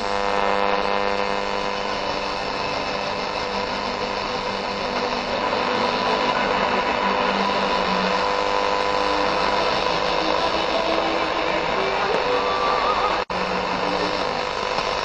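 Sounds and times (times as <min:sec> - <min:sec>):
radio buzz: 0:00.0 - 0:15.0
radio static hiss: 0:00.0 - 0:15.0.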